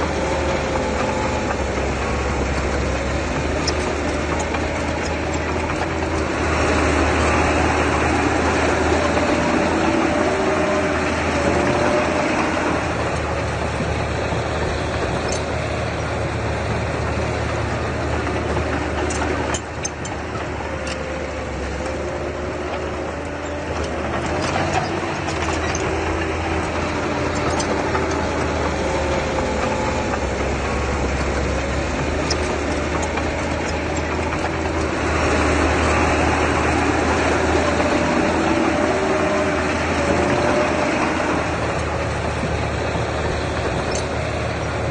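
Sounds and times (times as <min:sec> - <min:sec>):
diesel engine of heavy machinery: 0:00.0 - 0:44.9.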